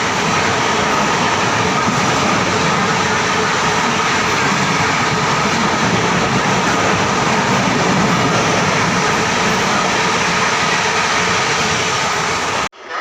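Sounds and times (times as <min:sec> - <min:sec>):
train wheels rushing on rails: 0:00.0 - 0:12.7.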